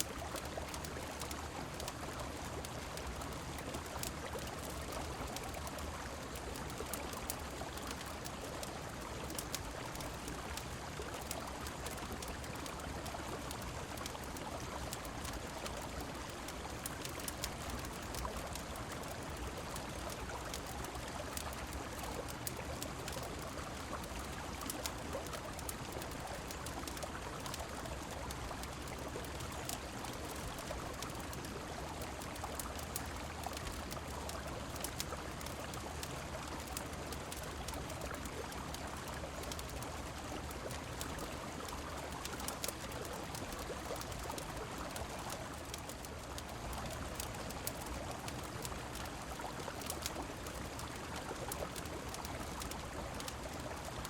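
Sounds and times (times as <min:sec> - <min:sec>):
rain: 0:00.0 - 0:54.0
small scattered ticks: 0:00.0 - 0:54.0.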